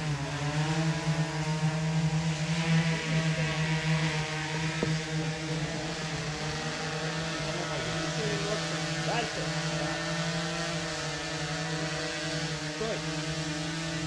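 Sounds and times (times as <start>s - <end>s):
drone hovering hum: 0.0s - 14.0s.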